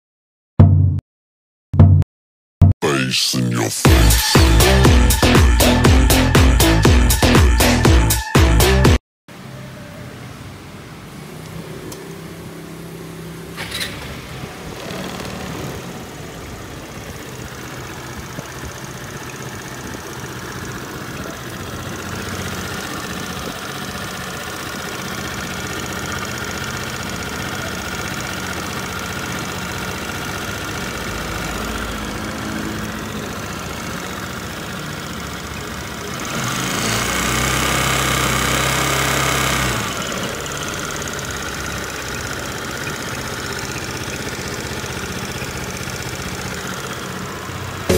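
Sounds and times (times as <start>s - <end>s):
scooter engine revving: 3.9s - 47.9s.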